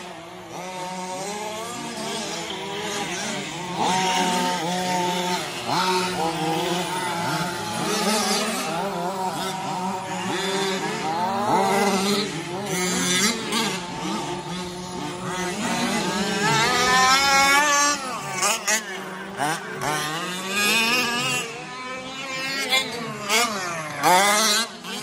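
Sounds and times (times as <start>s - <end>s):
remote-control truck motors revving: 0.0s - 25.0s.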